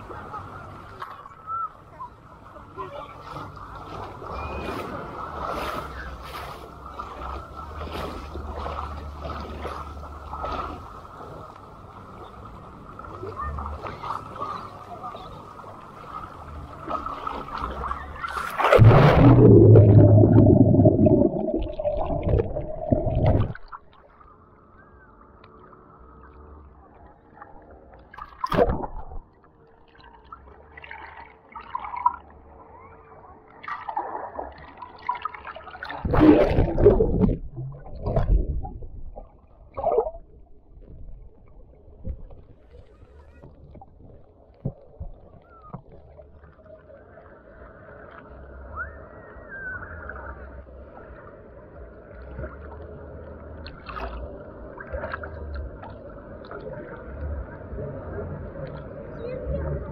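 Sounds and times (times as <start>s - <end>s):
water splashing and gurgling: 3.2s - 24.4s, 27.1s - 59.9s.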